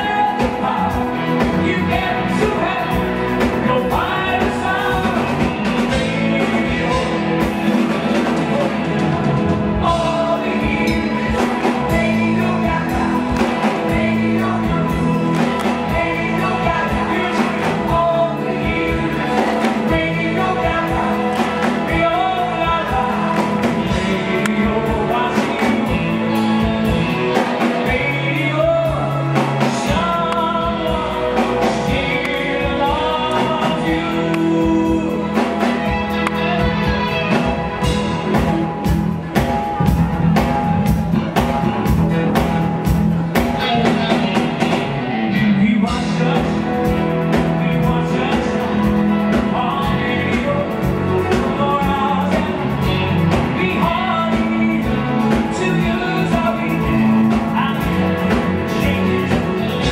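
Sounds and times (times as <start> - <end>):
bass guitar: 0.0 - 59.9
drum kit: 0.0 - 59.9
keyboards: 0.0 - 59.9
man singing lead: 0.0 - 59.9.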